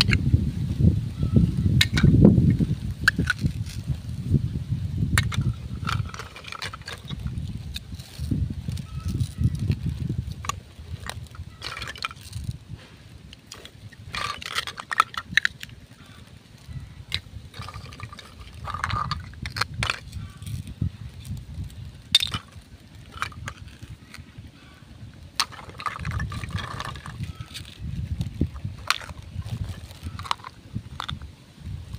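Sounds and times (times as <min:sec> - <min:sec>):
plastic toy pieces clacking: 0:00.0 - 0:00.2, 0:01.8 - 0:03.9, 0:05.2 - 0:12.6, 0:13.3 - 0:24.5, 0:25.1 - 0:31.3
low steady rumble: 0:00.0 - 0:31.9.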